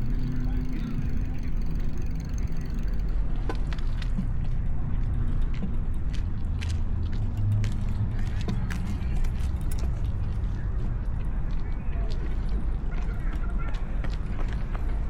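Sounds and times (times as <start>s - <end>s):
bicycle rolling noise: 0.0s - 15.0s.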